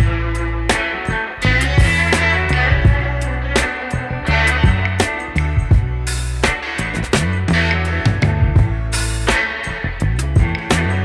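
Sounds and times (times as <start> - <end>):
funk groove with bass guitar drums: 0.0 - 11.0.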